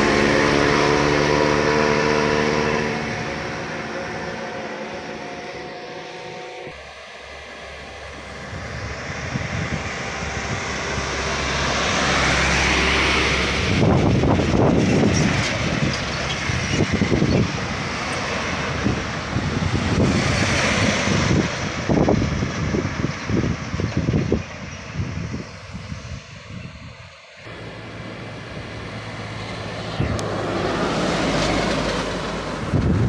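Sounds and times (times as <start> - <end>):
diesel trucks labouring uphill: 0.0 - 33.0.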